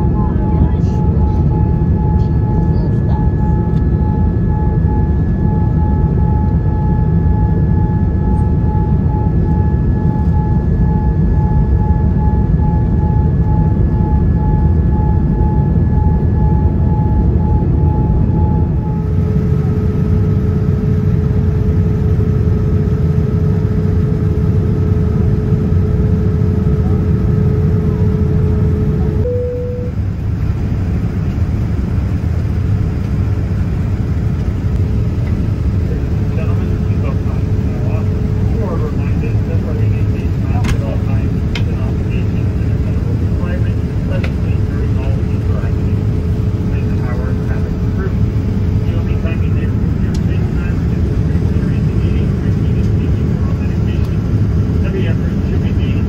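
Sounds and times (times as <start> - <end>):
jet engine and airflow roar: 0.0 - 56.0
steady whining tone: 0.0 - 56.0.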